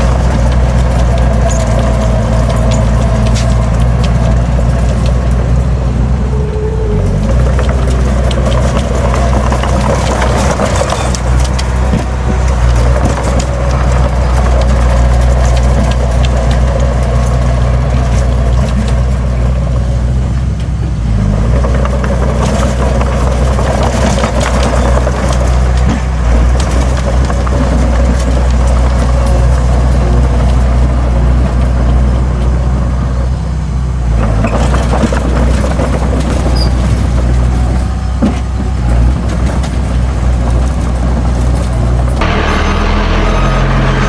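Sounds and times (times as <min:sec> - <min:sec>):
rattles and clanks: 0:00.0 - 0:20.8, 0:21.5 - 0:32.7, 0:34.1 - 0:44.0
heavy diesel engine under load: 0:00.0 - 0:44.0.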